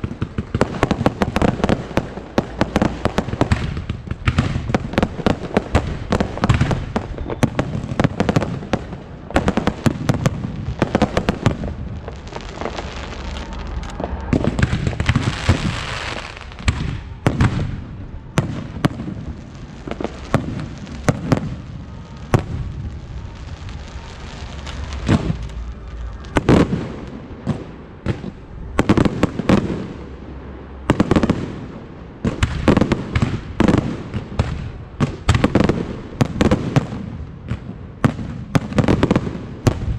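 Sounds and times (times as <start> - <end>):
fireworks bangs: 0.0 - 39.9
fireworks hissing crackle: 0.0 - 39.9.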